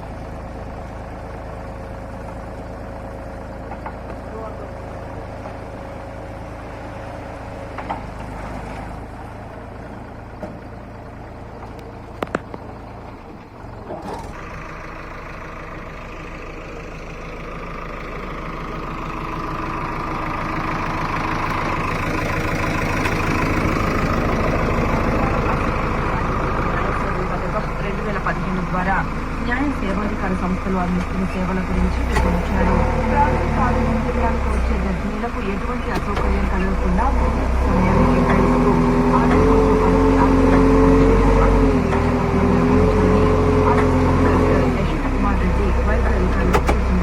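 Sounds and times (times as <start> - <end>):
heavy diesel engine running: 0.0 - 47.0.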